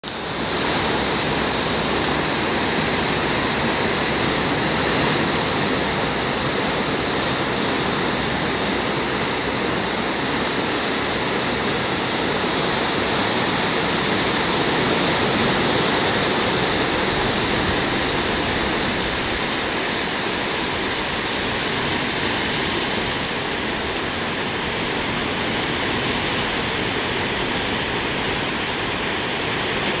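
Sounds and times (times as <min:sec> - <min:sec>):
ocean surf on rocky shore: 0:00.0 - 0:30.0.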